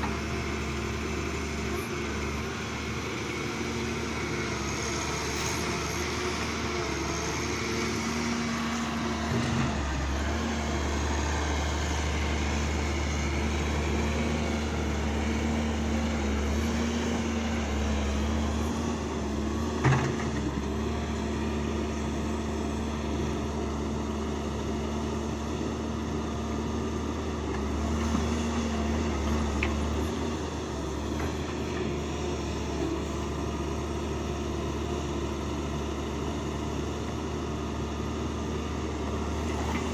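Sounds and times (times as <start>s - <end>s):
excavator diesel engine rumbling: 0.0s - 39.9s.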